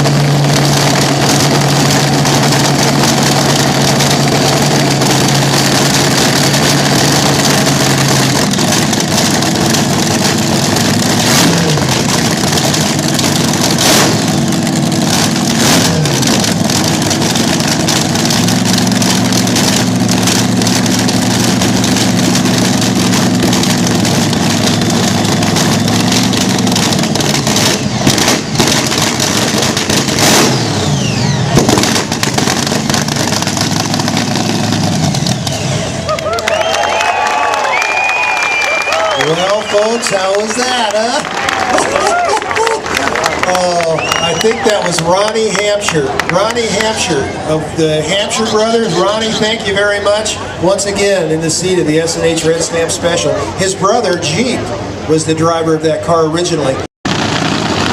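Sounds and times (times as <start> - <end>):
dragster engine idling and revving: 0.0 - 57.9.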